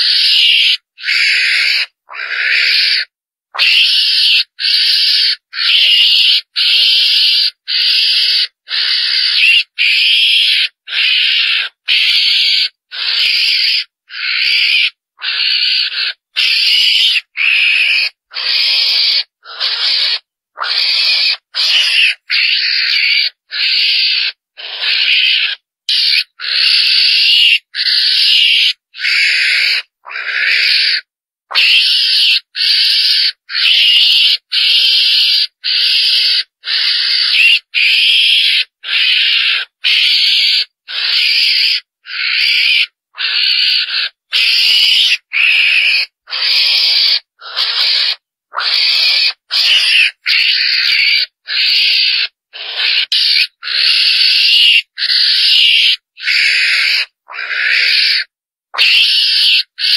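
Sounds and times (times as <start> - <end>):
high-pitched mongoose calls: 0.0 - 59.9.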